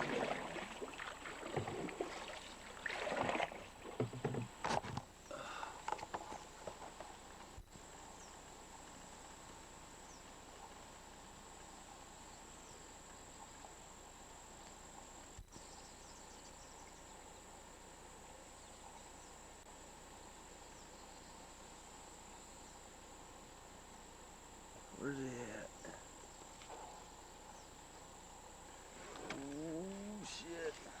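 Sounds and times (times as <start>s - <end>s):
crickets trilling: 0.0s - 31.0s.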